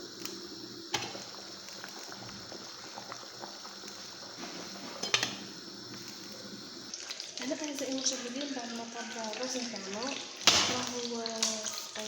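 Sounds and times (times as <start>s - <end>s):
pot simmering and bubbling: 0.0s - 12.0s.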